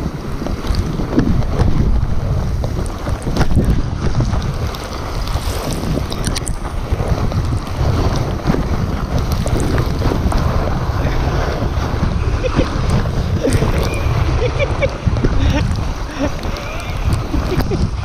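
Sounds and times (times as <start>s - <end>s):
sled runners sliding over snow: 0.0s - 18.0s
wind rumbling on microphone: 0.0s - 18.0s.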